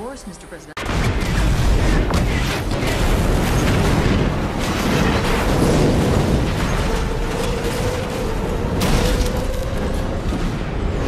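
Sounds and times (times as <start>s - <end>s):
debris crashing: 0.8s - 11.0s
explosion rumble: 0.8s - 11.0s.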